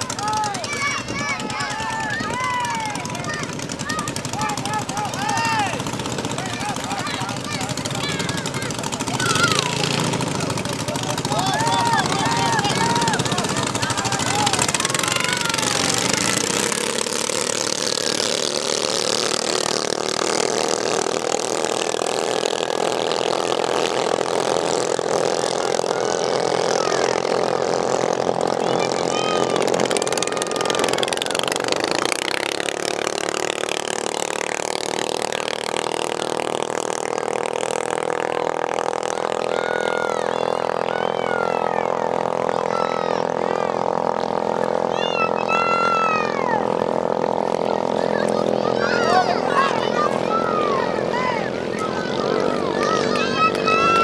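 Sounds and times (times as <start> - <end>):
racing boat engines buzzing: 0.0 - 54.0.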